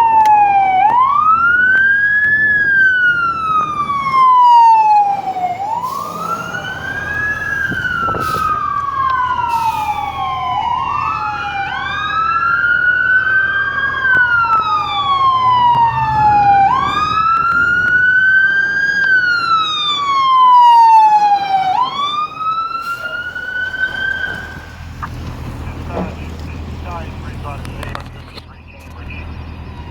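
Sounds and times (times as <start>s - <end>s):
fire engine sirens wailing: 0.0s - 29.9s
truck engine rumble: 0.0s - 29.9s.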